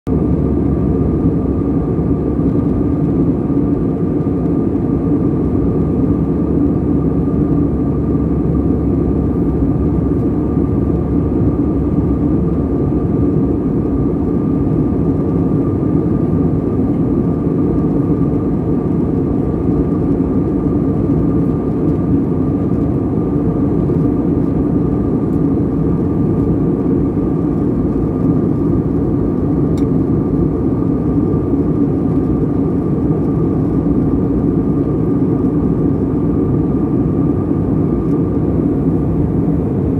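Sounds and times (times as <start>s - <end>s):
airliner engine drone: 0.1s - 39.9s.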